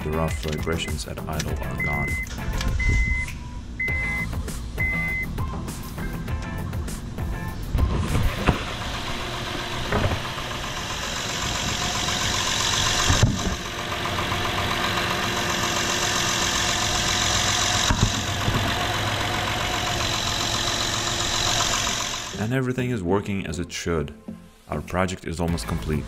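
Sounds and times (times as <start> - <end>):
car engine idling: 0.0 - 22.4.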